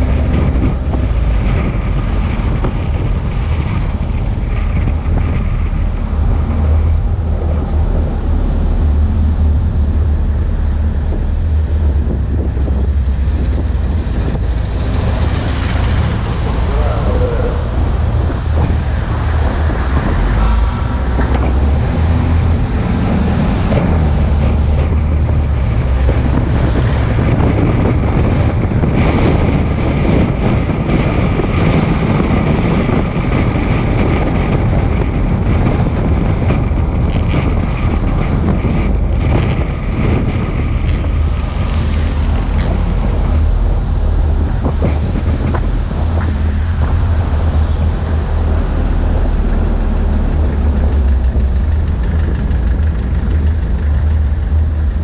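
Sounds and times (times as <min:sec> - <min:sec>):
steady low rumble: 0:00.0 - 0:55.0
wind buffeting microphone: 0:00.0 - 0:55.0.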